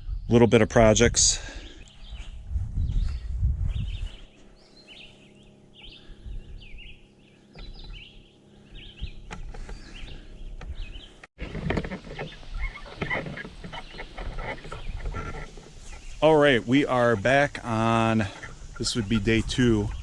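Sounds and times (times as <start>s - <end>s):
birds chirping: 0.0s - 11.3s, 11.9s - 20.0s.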